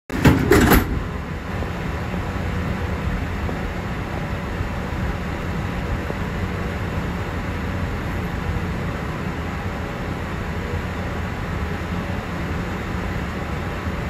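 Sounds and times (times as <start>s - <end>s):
train interior rumble: 0.1s - 14.0s.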